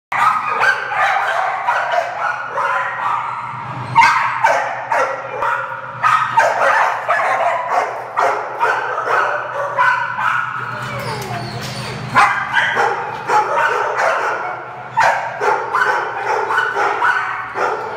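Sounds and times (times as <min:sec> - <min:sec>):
dog barking high-pitched: 0:00.1 - 0:17.9
steady low hum: 0:00.4 - 0:17.9.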